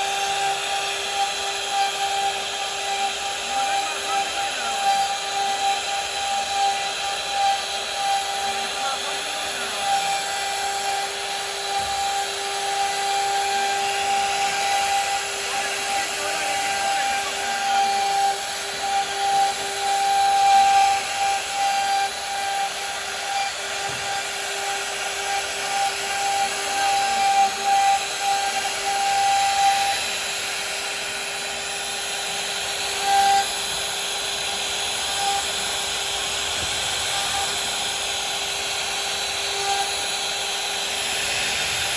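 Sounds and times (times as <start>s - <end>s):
bit cutting wood with hiss: 0.0s - 41.9s
router spindle high whine: 0.0s - 41.9s.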